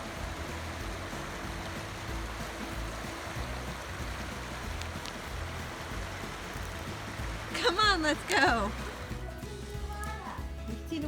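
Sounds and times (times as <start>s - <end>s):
hiss of water: 0.0s - 9.8s.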